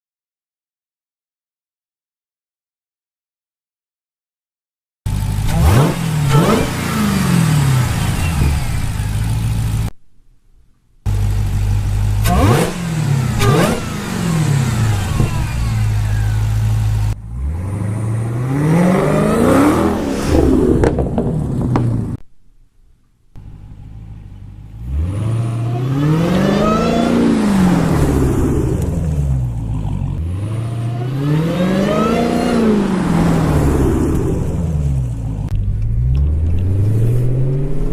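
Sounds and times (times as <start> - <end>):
car engine revving: 5.1 - 9.9, 11.1 - 22.2, 23.4 - 37.9
supercharger whine: 5.1 - 9.9, 11.1 - 22.2, 23.4 - 37.9.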